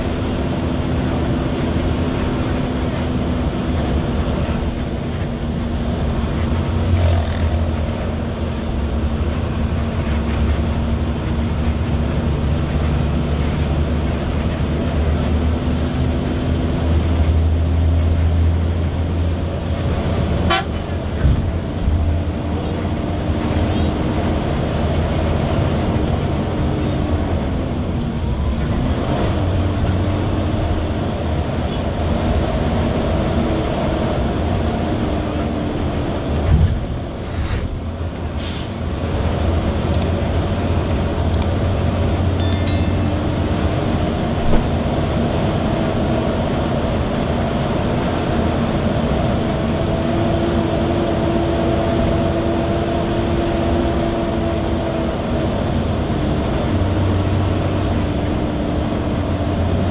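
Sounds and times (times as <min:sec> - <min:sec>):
engine drone with road noise: 0:00.0 - 0:59.9.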